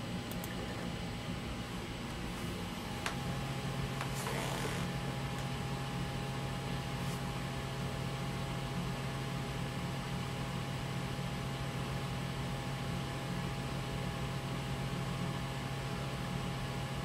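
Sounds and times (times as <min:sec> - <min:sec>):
computer fan whirring: 0:00.0 - 0:17.0.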